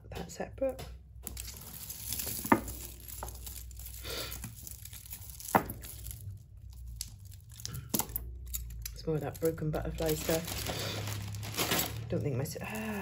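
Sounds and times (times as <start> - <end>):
beads and chains clinking: 1.3 - 13.0.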